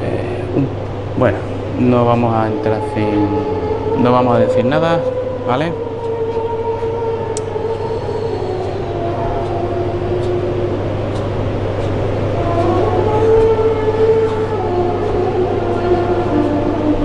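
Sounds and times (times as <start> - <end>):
steady low hum: 0.0 - 17.0
sustained drawn-out tones: 0.0 - 17.0.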